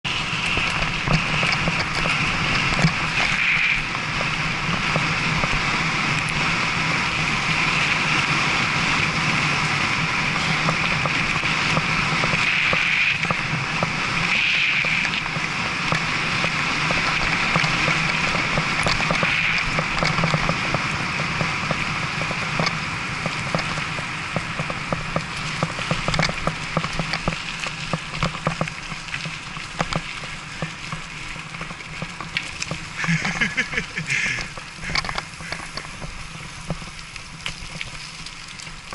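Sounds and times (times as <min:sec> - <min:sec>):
bike tyres rushing on gravel: 0:00.0 - 0:38.9.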